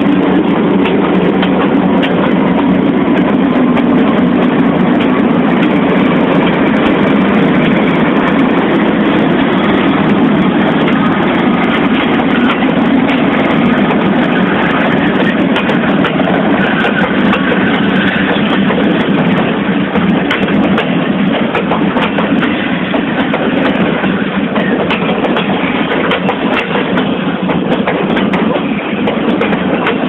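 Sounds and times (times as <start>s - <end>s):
diesel locomotive engine rumble: 0.0s - 30.0s
rail clatter: 0.0s - 30.0s.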